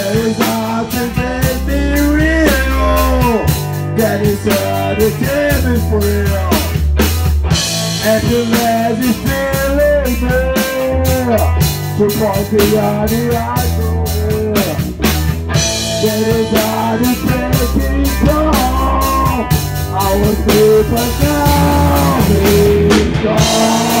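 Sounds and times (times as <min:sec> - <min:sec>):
person singing: 0:00.0 - 0:06.8, 0:08.0 - 0:14.8, 0:15.8 - 0:24.0
bass guitar: 0:00.0 - 0:24.0
drums: 0:00.0 - 0:24.0
electric guitars: 0:00.0 - 0:24.0.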